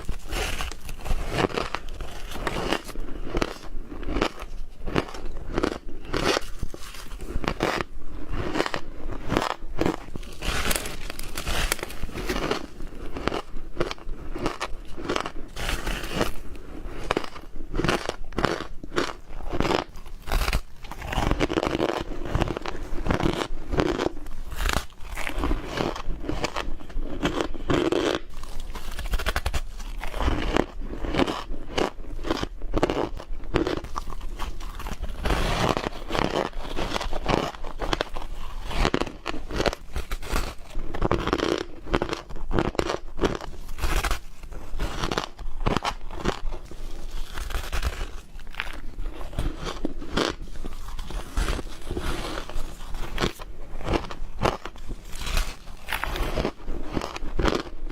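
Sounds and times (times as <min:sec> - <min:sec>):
ice being chewed and crunched: 0:00.0 - 0:57.9.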